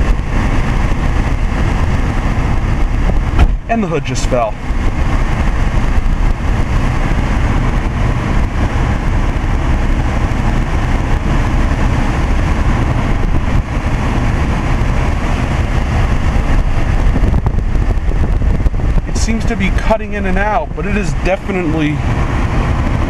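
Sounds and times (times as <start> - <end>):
car engine running with low rumble: 0.0 - 23.0.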